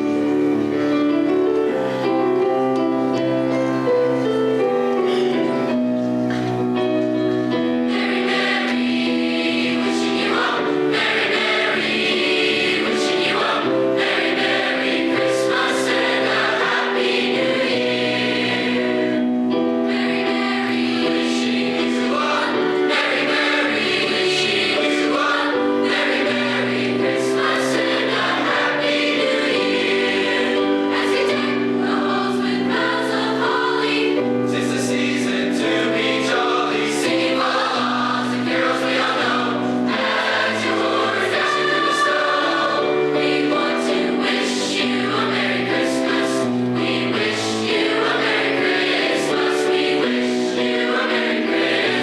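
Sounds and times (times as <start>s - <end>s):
choir singing: 0.0s - 52.0s.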